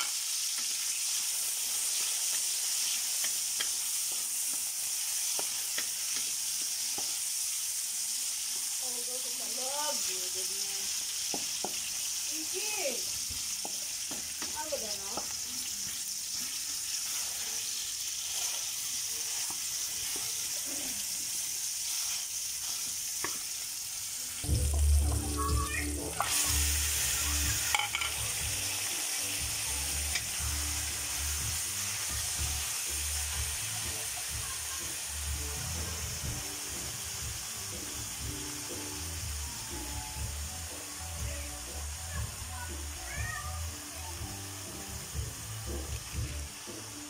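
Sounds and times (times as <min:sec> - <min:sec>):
vegetables sizzling in hot oil: 0:00.0 - 0:47.0.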